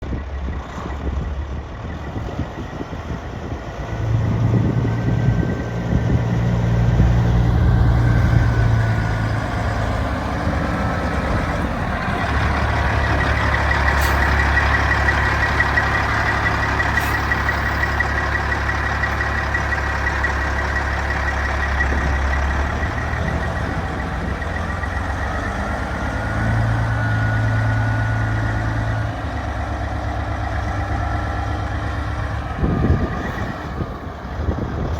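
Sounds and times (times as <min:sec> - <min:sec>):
truck diesel engine revving: 0:02.8 - 0:34.9.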